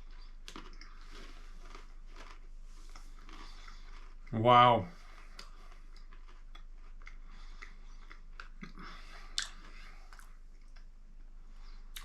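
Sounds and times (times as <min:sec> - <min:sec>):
person chewing crunchy snack: 0:00.0 - 0:12.0.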